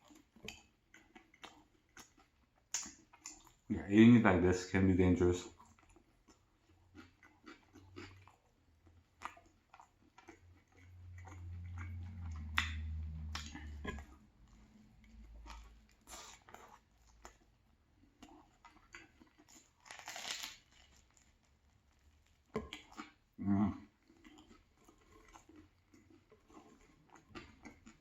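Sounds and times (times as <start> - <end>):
chewing and crunching bread: 0.0 - 28.0.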